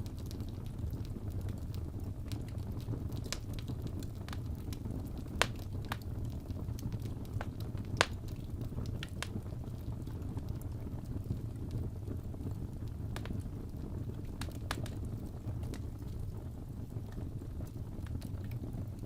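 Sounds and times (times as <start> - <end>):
fire crackles and pops: 0.0 - 19.0
fire rumbling in fireplace: 0.0 - 19.0.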